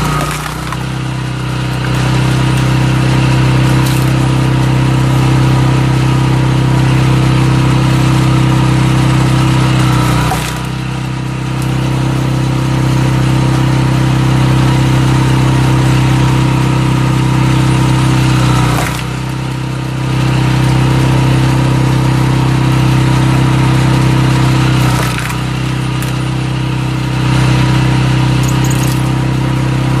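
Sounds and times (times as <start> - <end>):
cultivator engine running: 0.0 - 30.0.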